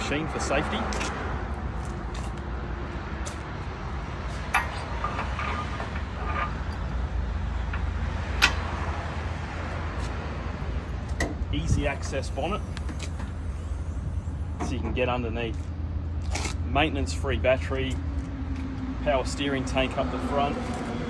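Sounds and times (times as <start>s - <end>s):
diesel tractor engine idling: 1.4s - 20.4s.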